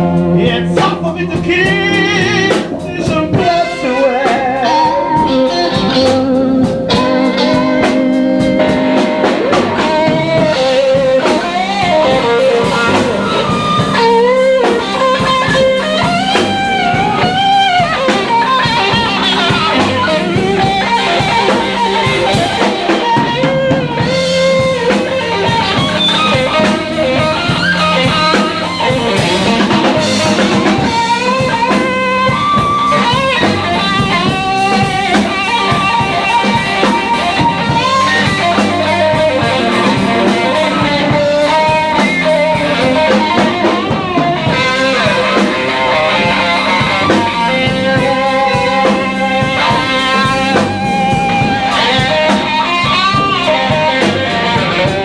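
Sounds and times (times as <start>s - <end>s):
drums: 0.0s - 55.0s
lead guitar bending notes: 0.0s - 55.0s
low accompaniment: 0.0s - 55.0s.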